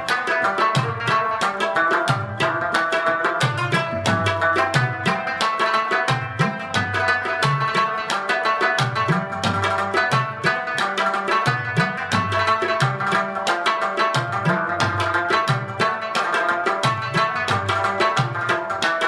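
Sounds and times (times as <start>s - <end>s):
hand drum rhythm: 0.0s - 19.0s
plucked string notes: 0.0s - 19.0s.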